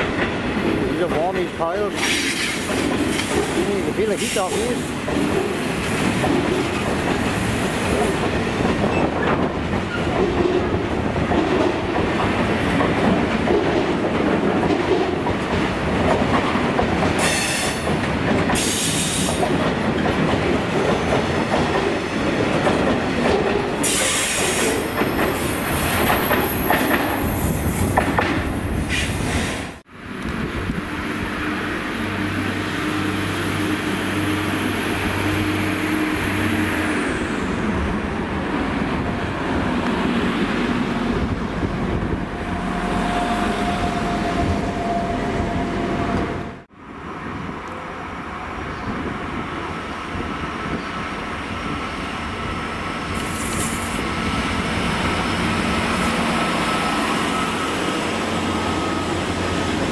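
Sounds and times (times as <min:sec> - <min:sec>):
train engine humming: 0:00.0 - 0:59.9.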